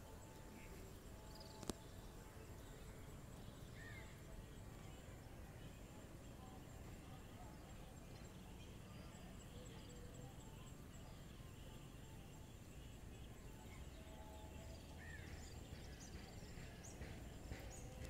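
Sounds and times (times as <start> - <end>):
faint chirp: 0.0 - 18.0.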